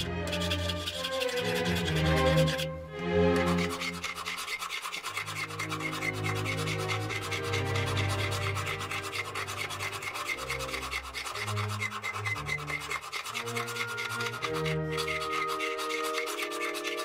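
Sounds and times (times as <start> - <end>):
sanding a steel blade: 0.0 - 2.7, 3.4 - 17.0
background music: 0.0 - 17.0.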